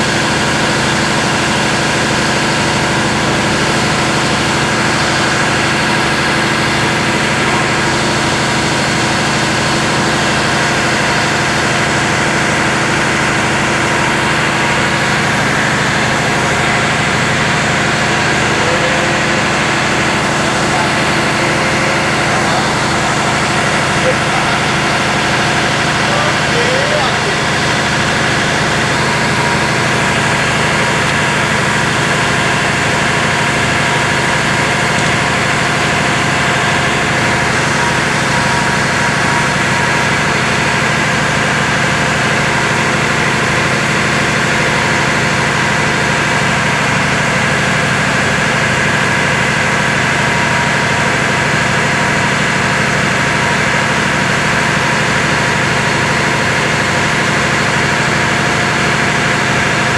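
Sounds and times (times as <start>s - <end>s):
large engine droning: 0.0s - 59.9s.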